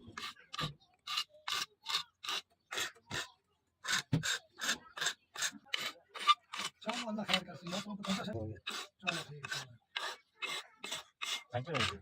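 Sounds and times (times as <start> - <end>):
hand tool rasping on knife blade: 0.0 - 12.0.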